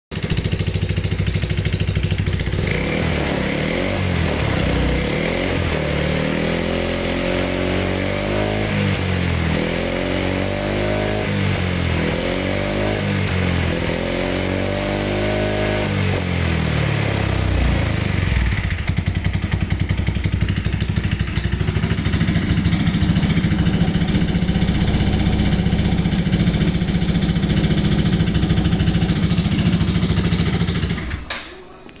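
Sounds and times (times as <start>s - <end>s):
scooter engine revving and idling: 0.1s - 31.3s.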